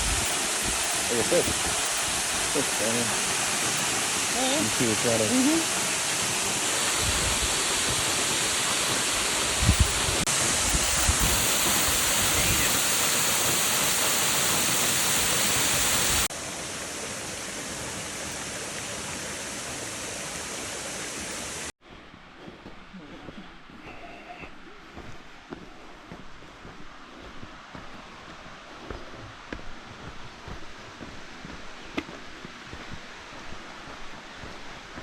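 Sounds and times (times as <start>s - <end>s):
rush of falling water: 0.0s - 21.8s, 25.0s - 35.0s.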